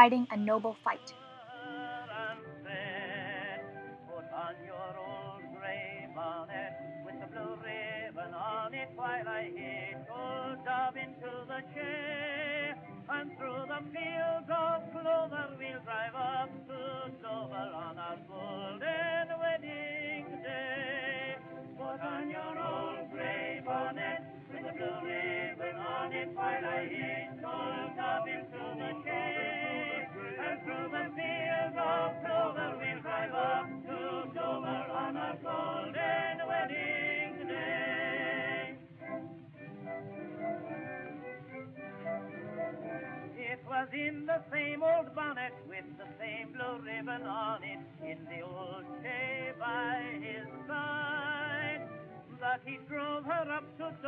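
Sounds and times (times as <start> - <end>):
old-time popular song: 0.0 - 54.0.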